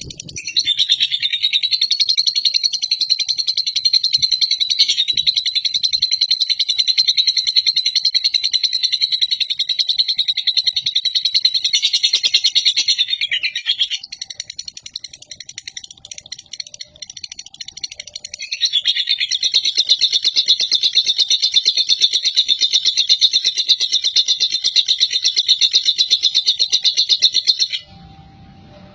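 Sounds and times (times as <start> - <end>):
lovebird chattering trill: 0.0 - 27.9
soft bird chatter: 0.0 - 27.9.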